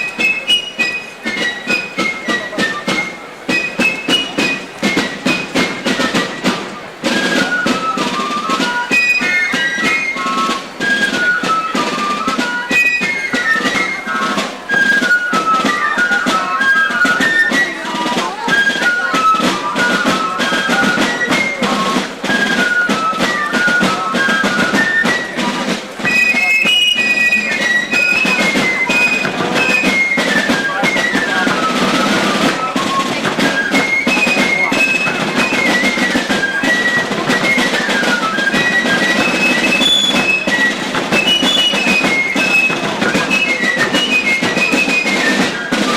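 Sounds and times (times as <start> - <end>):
fife melody: 0.0 - 45.9
steady drumbeats: 0.0 - 45.9.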